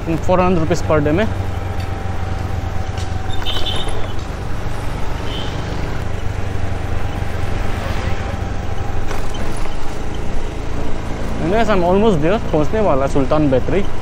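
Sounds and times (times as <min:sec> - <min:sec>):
road noise: 0:00.0 - 0:14.0
scooter engine and wind: 0:00.0 - 0:14.0.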